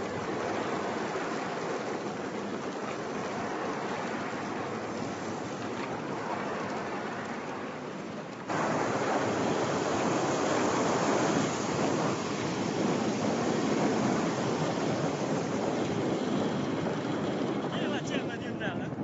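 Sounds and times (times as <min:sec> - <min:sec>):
river rushing: 0:00.0 - 0:18.6
wind: 0:00.0 - 0:19.0.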